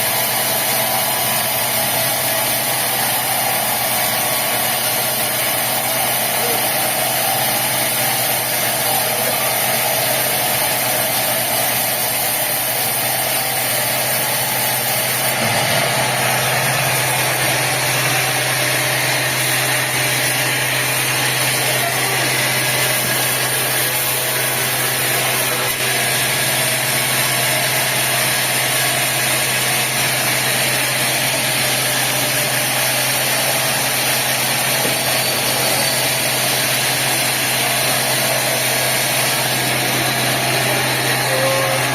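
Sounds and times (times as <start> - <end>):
sawmill machinery drone: 0.0 - 41.9.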